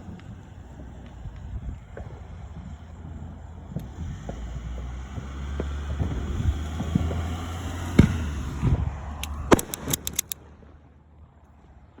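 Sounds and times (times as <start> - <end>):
firework bangs: 0.0 - 10.6
firework crackles: 0.0 - 10.8
steady low rumble: 0.0 - 10.8.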